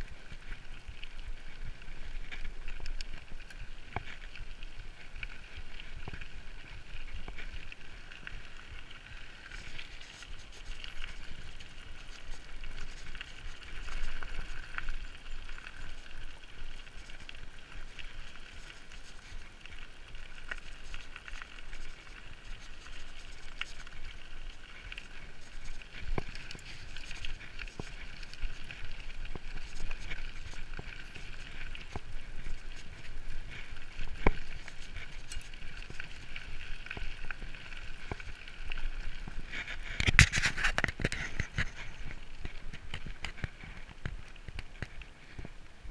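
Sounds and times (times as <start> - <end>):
bike tyres rolling on dirt: 0.0 - 45.9.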